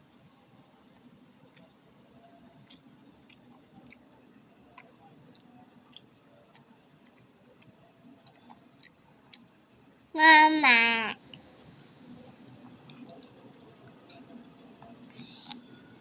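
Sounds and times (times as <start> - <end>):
baby chewing noodles: 0.1 - 9.8, 11.2 - 16.0.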